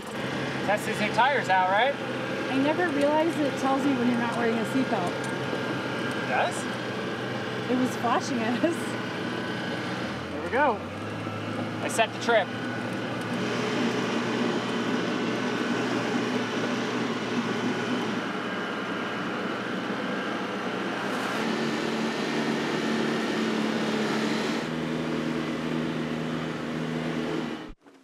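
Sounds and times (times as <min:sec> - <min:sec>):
tire noise: 0:00.0 - 0:28.0
vehicle engine running: 0:00.0 - 0:28.0.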